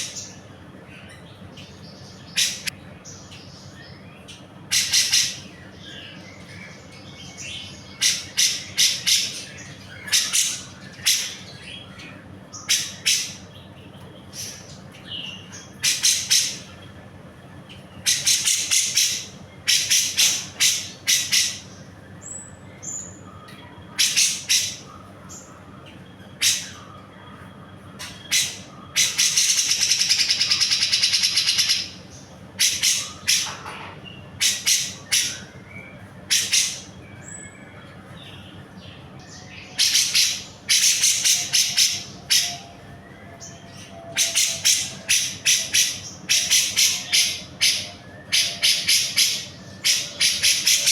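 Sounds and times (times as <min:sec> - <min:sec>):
bird singing chattering notes: 0:00.0 - 0:50.9.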